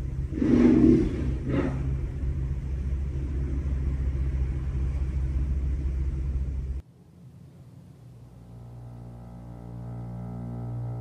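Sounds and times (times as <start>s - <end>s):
low rumbling drone: 0.0s - 11.0s.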